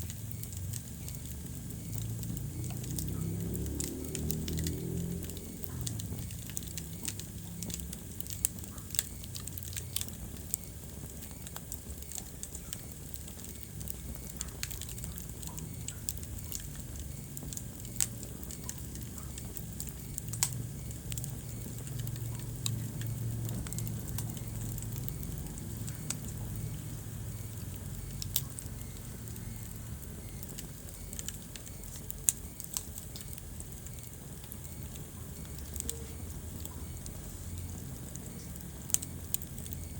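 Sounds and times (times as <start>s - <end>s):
fire crackling and popping: 0.0s - 39.9s
flames rumbling: 0.0s - 39.9s.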